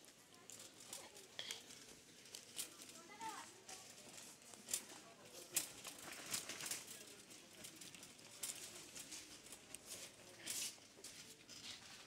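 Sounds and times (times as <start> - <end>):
light clicks and clatters: 0.0 - 12.0.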